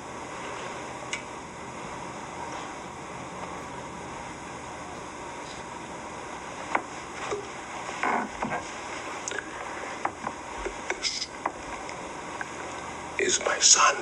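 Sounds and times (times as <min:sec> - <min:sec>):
film soundtrack hiss: 0:00.0 - 0:14.0.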